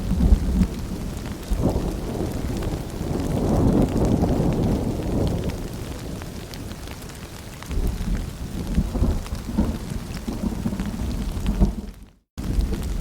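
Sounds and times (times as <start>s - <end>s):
rolling thunder rumble: 0.0s - 7.0s, 7.7s - 13.0s
steady rain: 0.0s - 13.0s.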